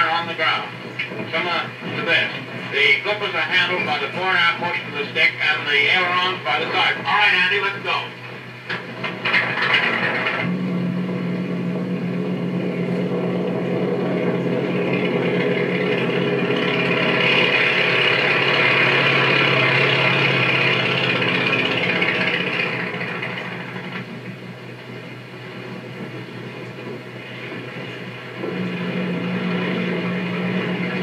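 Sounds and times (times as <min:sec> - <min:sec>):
propeller aircraft engine in flight: 0:00.0 - 0:31.0.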